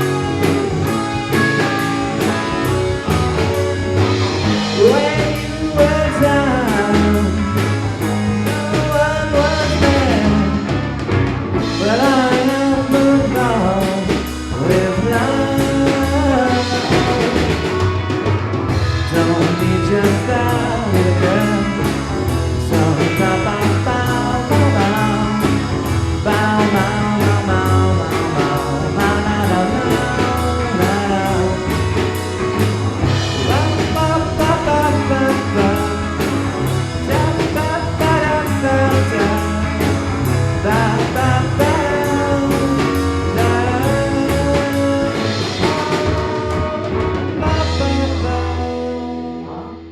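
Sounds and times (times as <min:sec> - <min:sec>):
lead singer singing: 0:00.0 - 0:18.1, 0:18.7 - 0:49.9
steady drum beat: 0:00.0 - 0:49.0
live band playing: 0:00.0 - 0:49.9.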